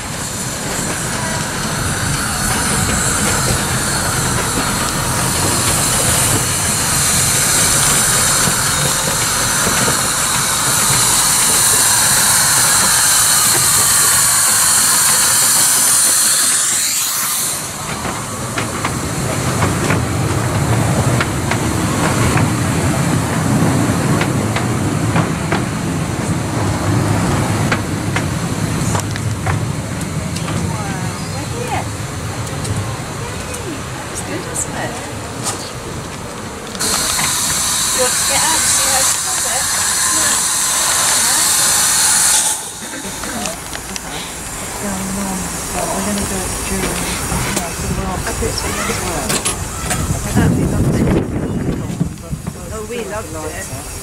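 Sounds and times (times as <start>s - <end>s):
coaches clicking over rail joints: 0.0s - 54.0s
steam locomotive hissing: 0.0s - 54.0s.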